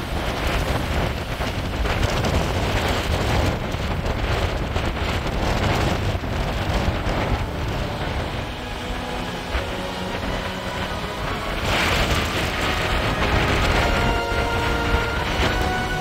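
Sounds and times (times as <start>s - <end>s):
surf breaking on rocks: 0.0s - 16.0s
wind buffeting microphone: 0.0s - 16.0s.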